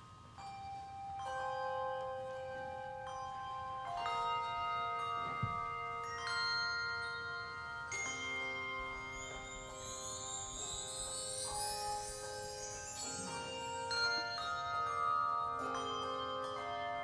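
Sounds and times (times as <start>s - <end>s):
handbell chords ringing: 0.0s - 17.0s.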